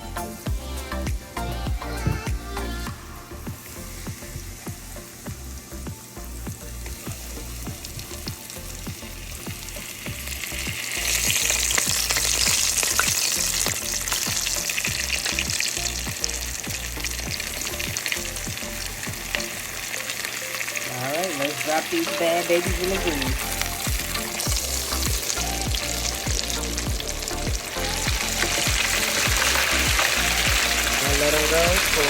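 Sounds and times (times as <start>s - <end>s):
food sizzling in hot oil: 0.0s - 32.0s.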